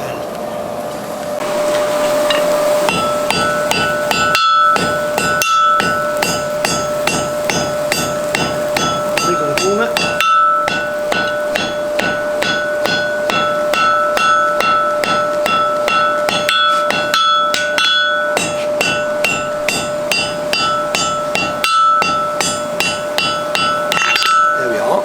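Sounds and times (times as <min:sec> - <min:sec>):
steady hum: 0:00.0 - 0:25.0
hammer striking steel on anvil: 0:02.3 - 0:25.0.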